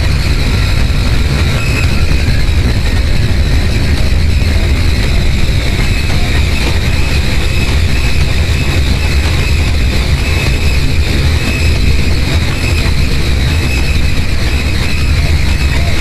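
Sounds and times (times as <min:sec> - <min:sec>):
harsh distorted noise music: 0:00.0 - 0:16.0.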